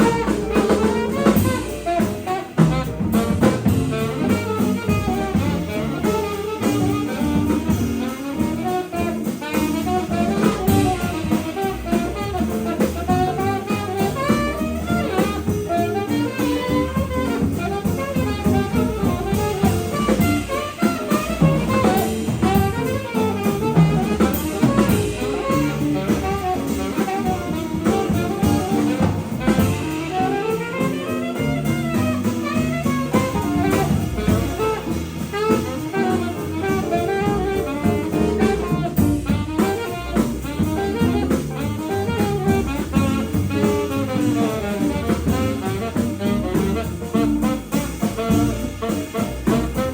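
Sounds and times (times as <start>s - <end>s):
jazz quintet playing swing: 0.0s - 49.9s
saxophone solo line: 0.0s - 49.9s.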